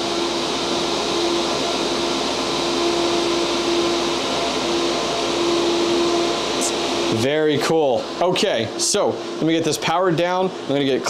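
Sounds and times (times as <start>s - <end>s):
fan hum: 0.0s - 11.0s
fans rushing air: 0.0s - 11.0s.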